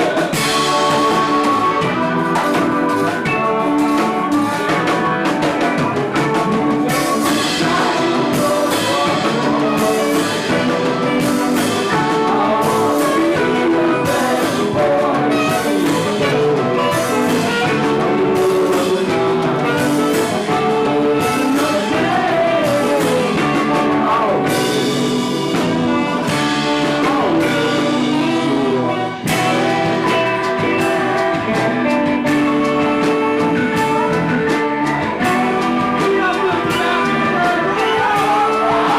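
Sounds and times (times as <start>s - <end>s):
band playing live: 0.0s - 38.9s.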